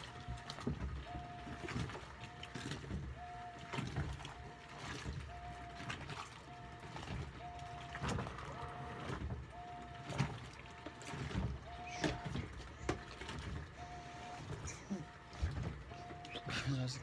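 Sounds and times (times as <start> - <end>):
washer motor whine: 0.0 - 17.0
water sloshing: 0.0 - 17.0.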